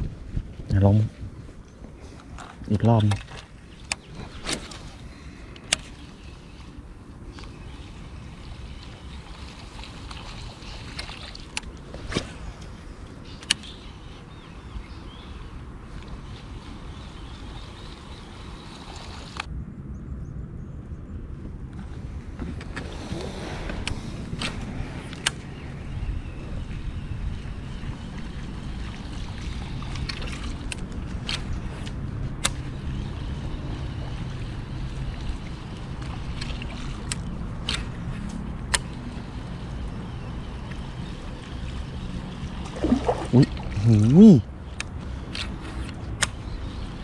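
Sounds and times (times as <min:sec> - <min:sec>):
wind: 0:00.0 - 0:47.0
water noise: 0:03.1 - 0:19.5, 0:21.8 - 0:47.0.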